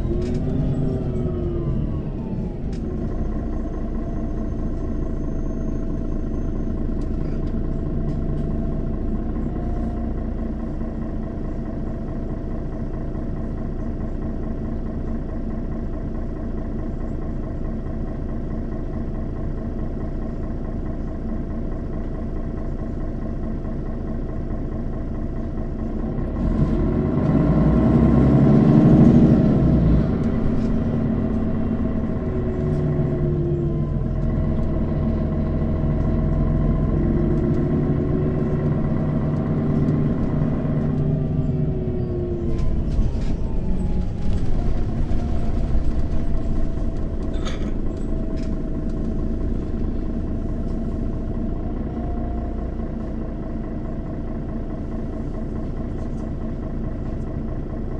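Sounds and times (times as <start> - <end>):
bus engine accelerating: 0.0 - 57.9.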